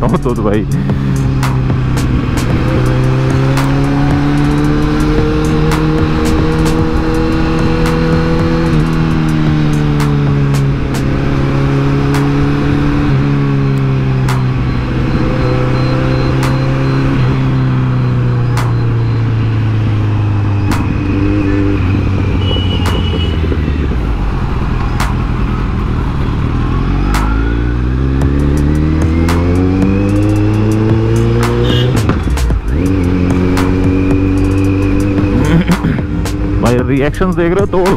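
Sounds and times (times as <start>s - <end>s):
motorcycle engine and exhaust: 0.0s - 37.9s.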